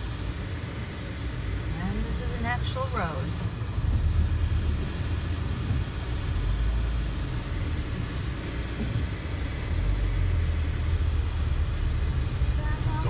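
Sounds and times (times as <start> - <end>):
car rumbling over cobblestones: 0.0 - 13.0.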